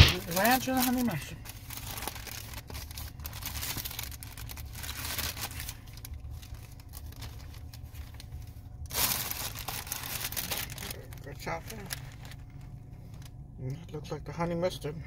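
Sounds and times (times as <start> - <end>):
paper wrapper crinkling: 0.0 - 13.4
low hum: 0.0 - 15.0.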